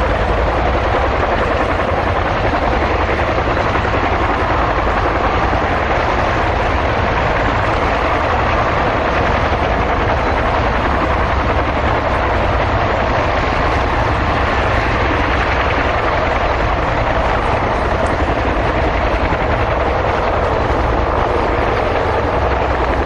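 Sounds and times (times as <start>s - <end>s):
helicopters flying overhead: 0.0s - 23.0s.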